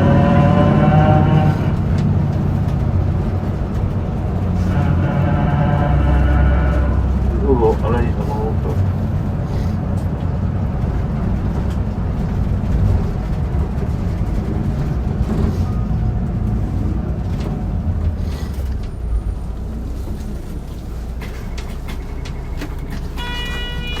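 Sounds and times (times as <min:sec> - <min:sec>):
bus engine low rumble: 0:00.0 - 0:24.0.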